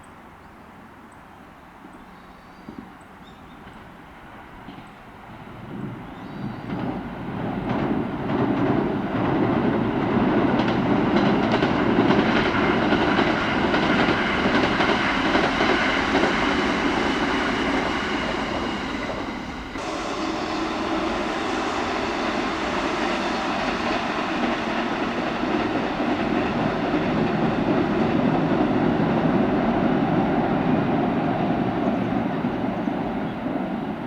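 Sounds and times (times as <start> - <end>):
electric train running past: 3.6 - 34.0.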